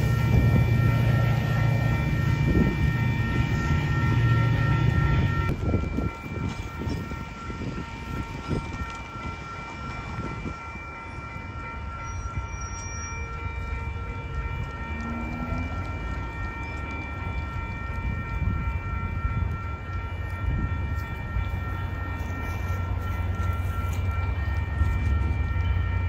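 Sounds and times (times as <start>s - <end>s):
diesel locomotive rumble: 0.0s - 26.0s
steady high-pitched tones: 0.0s - 26.0s
train wheels clacking on rails: 0.0s - 26.0s.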